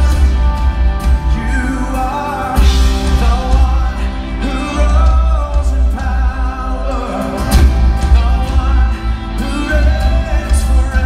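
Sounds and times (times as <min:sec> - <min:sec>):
drums: 0:00.0 - 0:11.0
electric guitars: 0:00.0 - 0:11.0
keyboard: 0:00.0 - 0:11.0.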